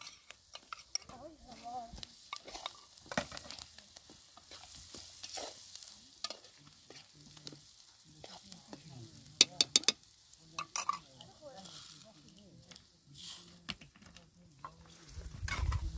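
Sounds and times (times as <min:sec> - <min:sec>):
metal spoon scraping a pan: 0:00.0 - 0:13.5, 0:14.6 - 0:15.9
filling sizzling in oil: 0:00.0 - 0:13.6.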